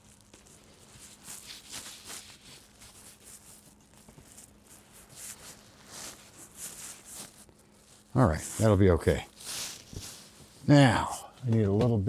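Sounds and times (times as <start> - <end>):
jacket rubbing on microphone: 0.6 - 10.6.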